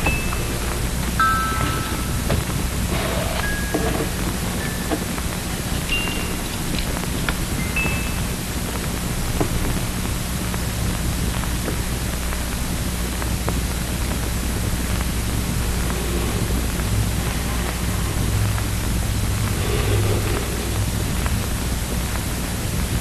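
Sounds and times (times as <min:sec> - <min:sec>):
low hum: 0:00.0 - 0:23.0
steady hiss: 0:00.0 - 0:23.0.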